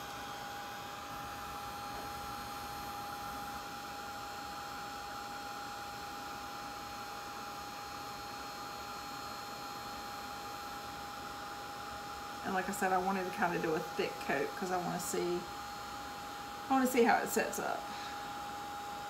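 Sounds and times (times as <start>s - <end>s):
heat gun running: 0.0s - 19.0s.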